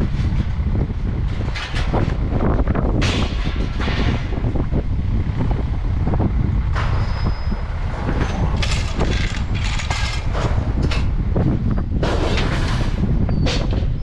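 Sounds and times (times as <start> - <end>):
low vehicle rumble: 0.0 - 14.0
rattles and clanks: 0.0 - 14.0.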